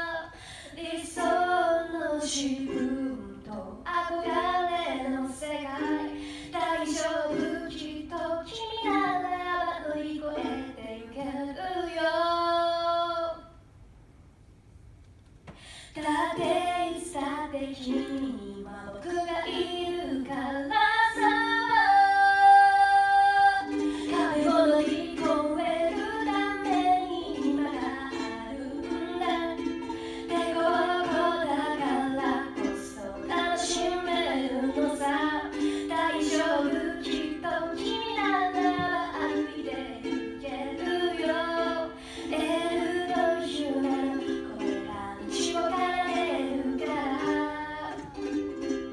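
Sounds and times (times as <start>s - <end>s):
ukulele strumming chords: 0.0s - 12.4s, 16.0s - 48.9s
woman singing: 0.0s - 13.5s, 16.0s - 48.4s.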